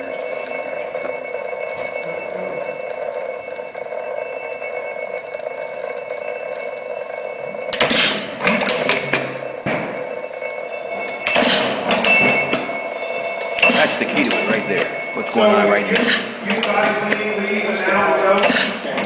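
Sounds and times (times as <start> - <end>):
faint high ringing: 0.0 - 8.4, 9.1 - 19.0.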